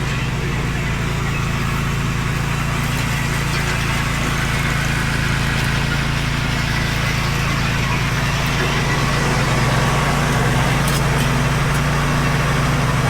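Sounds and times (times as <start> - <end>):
engine droning steadily: 0.0 - 13.0.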